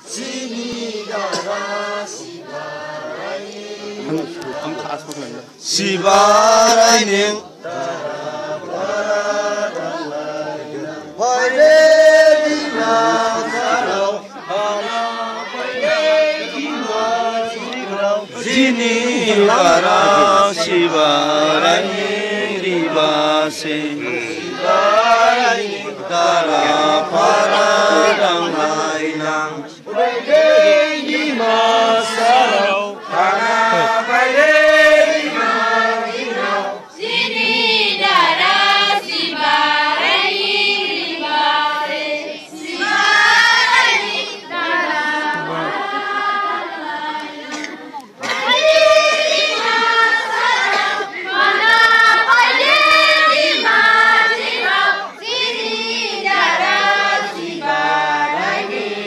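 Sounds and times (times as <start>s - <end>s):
group chanting in unison: 0.0s - 59.0s.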